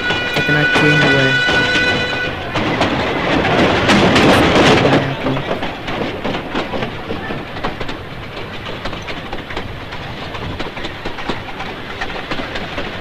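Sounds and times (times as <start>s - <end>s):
train rumbling: 0.0s - 13.0s
wheels clacking on rails: 0.0s - 13.0s.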